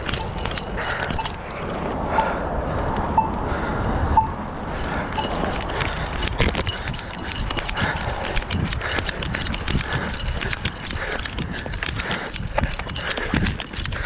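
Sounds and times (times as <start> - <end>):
running footsteps on concrete: 0.0 - 3.5, 4.5 - 14.0
steady low rumble: 0.0 - 14.0.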